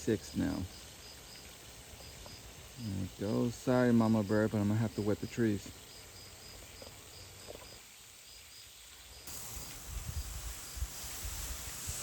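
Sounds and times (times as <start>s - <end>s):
faint insect chirps: 0.0s - 12.0s
garden hose spraying water: 0.0s - 12.0s.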